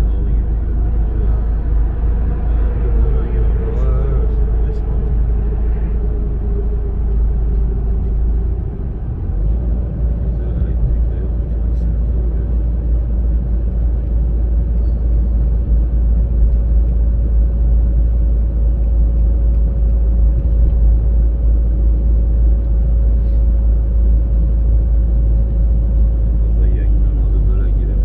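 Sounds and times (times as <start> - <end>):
faint steady whine: 0.0 - 28.0
road and engine rumble: 0.0 - 28.0.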